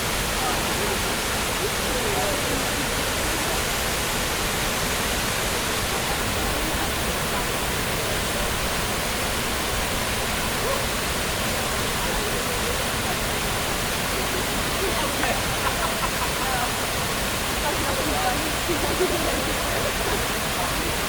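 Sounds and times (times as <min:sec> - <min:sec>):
waterfall crashing: 0:00.0 - 0:21.0.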